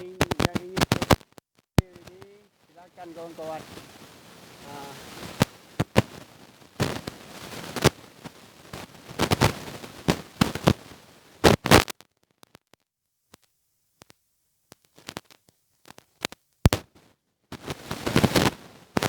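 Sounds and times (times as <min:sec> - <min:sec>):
sharp crackles and snaps: 0:00.0 - 0:19.0.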